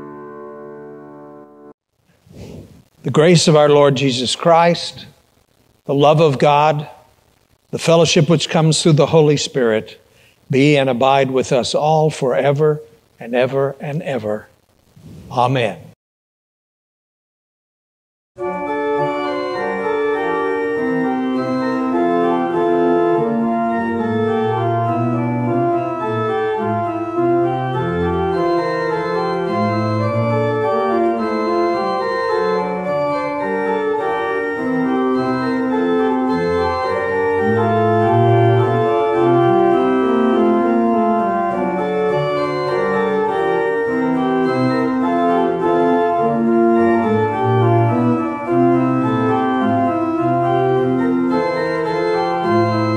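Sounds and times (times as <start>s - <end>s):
organ playing full chords: 0.0s - 1.7s, 2.9s - 14.5s, 18.4s - 52.9s.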